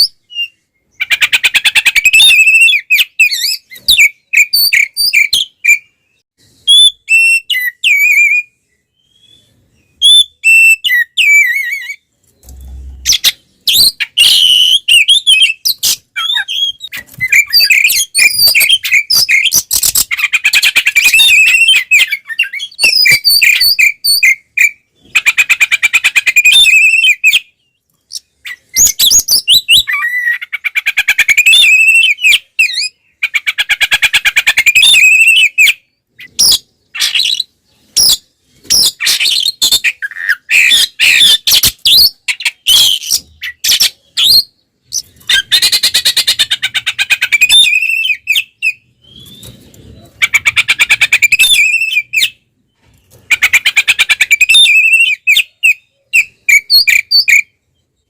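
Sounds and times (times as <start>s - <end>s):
magpie-robin singing: 0.0s - 52.5s, 53.2s - 58.0s.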